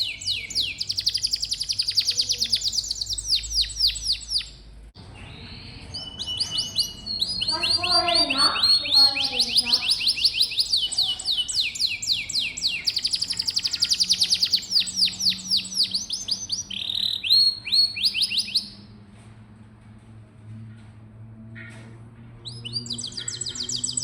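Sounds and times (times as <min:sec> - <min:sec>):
canary singing trills: 0:00.0 - 0:18.8, 0:22.4 - 0:24.0.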